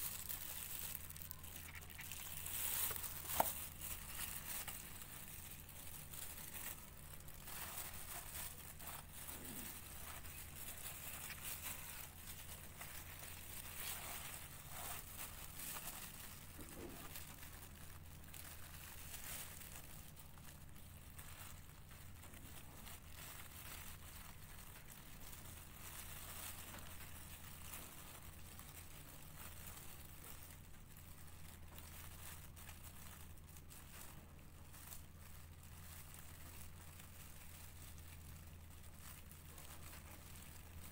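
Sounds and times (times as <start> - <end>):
plastic bag and tissue paper rustling: 0.0 - 40.9
steady low hum: 0.0 - 40.9.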